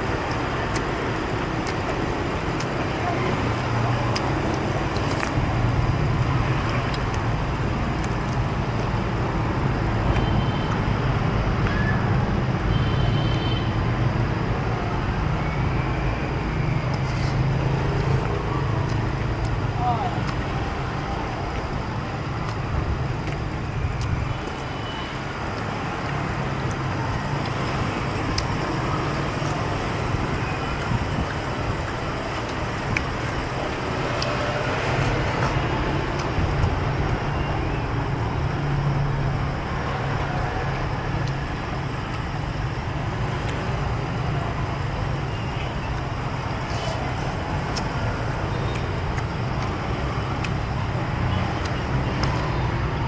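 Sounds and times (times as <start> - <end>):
street traffic noise: 0.0 - 53.0.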